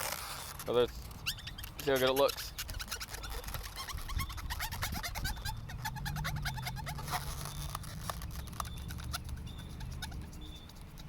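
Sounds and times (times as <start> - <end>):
latex balloons squeaking: 0.0 - 11.0.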